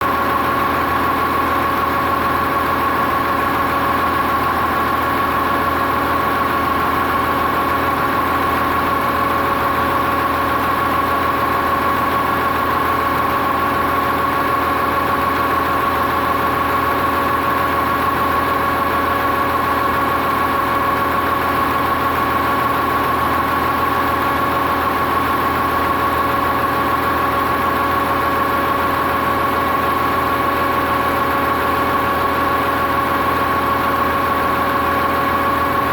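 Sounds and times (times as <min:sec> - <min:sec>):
tractor engine idling: 0:00.0 - 0:35.9.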